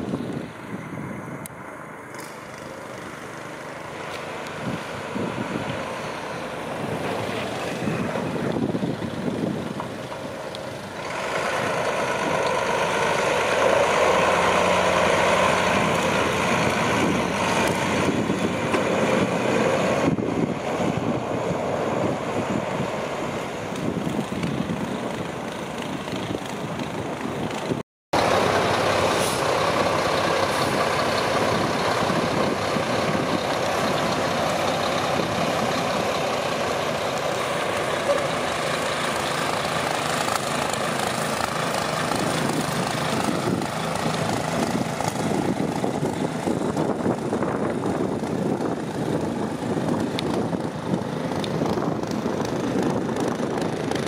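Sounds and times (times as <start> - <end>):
diesel truck engine: 0.0 - 54.0.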